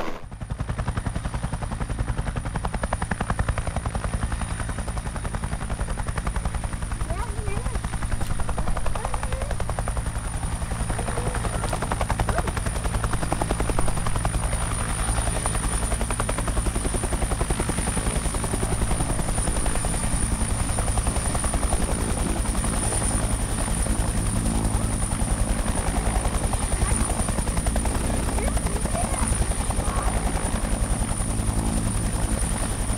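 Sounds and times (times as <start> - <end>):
helicopter rotor chop: 0.0 - 32.9.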